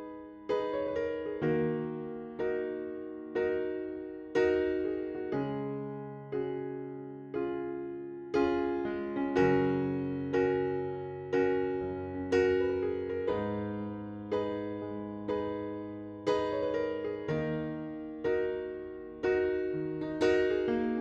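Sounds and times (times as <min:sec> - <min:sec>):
soft piano chords: 0:00.0 - 0:21.0.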